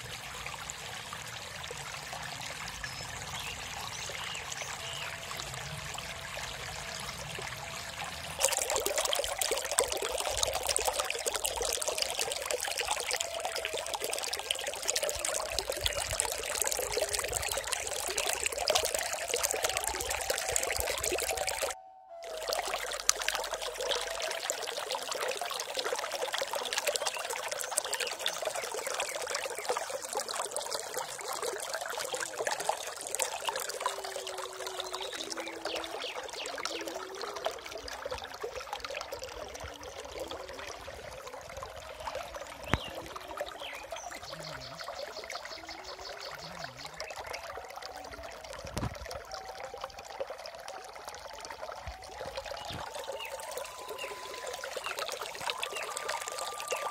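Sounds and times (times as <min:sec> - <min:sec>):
water trickling and splashing: 0:00.0 - 0:56.9.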